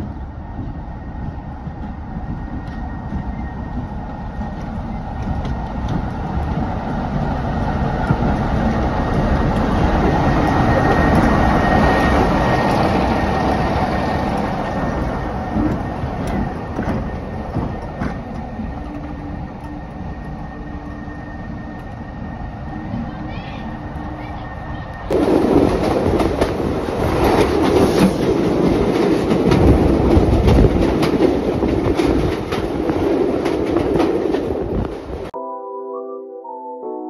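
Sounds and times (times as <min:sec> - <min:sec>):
diesel locomotive engine passing: 0:00.0 - 0:35.3.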